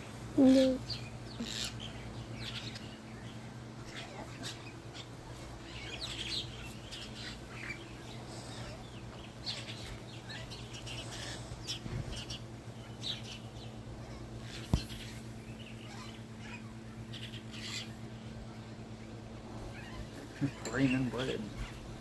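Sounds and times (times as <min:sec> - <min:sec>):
flock of birds chirping: 0:00.0 - 0:22.0
steady low hum: 0:00.0 - 0:22.0.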